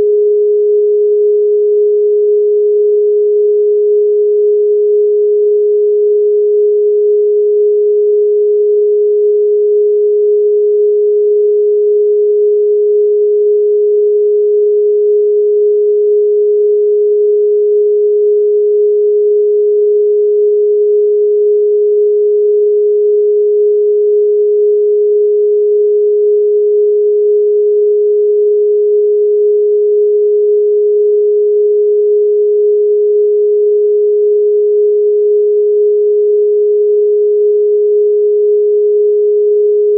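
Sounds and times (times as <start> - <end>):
steady sine-wave tone: 0.0 - 39.9.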